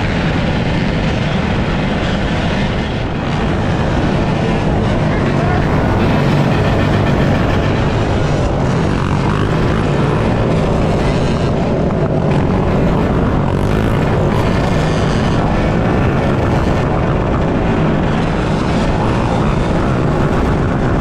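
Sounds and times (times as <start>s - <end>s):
dirt bike and atv engines: 0.0s - 21.0s
wind rush on microphone: 0.0s - 21.0s.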